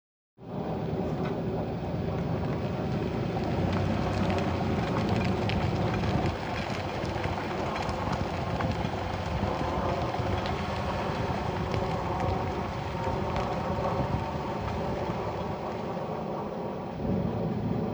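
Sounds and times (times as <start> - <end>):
extraneous drivetrain noise: 0.5 - 17.9
car engine pulling away: 0.6 - 16.1.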